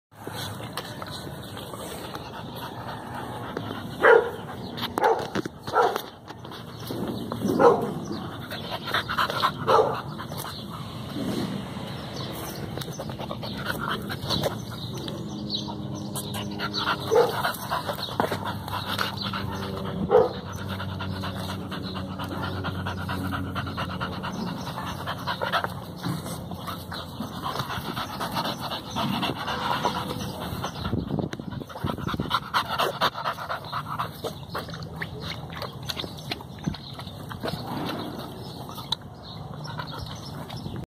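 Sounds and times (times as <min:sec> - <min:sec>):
dog panting hard: 0:00.2 - 0:11.1, 0:12.3 - 0:37.6.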